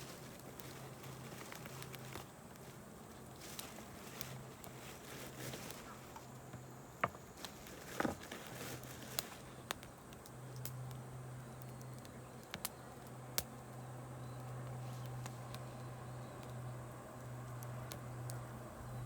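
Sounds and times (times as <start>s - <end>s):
campfire crackling: 0.0s - 19.0s
steady low hum: 0.0s - 19.0s.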